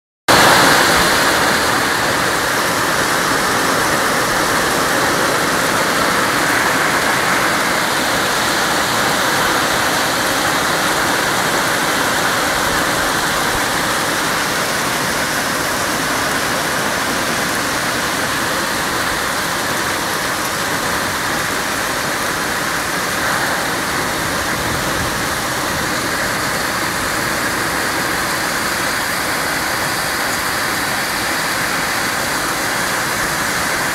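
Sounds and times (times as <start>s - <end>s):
hail and rain falling hard: 0.3s - 33.9s.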